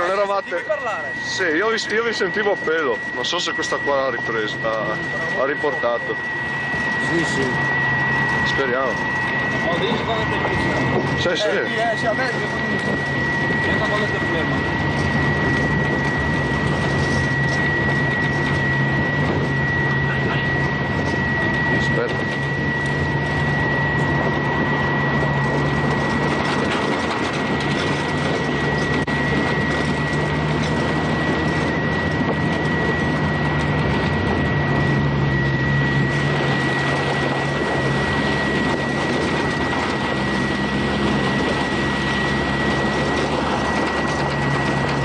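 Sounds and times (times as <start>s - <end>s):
high-pitched whine: 0.0s - 45.0s.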